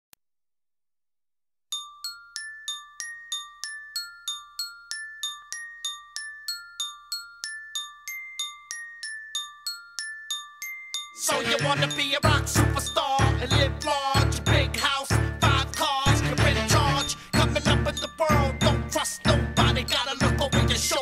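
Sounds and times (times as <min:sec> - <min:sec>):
bell-like melody: 0:01.7 - 0:21.0.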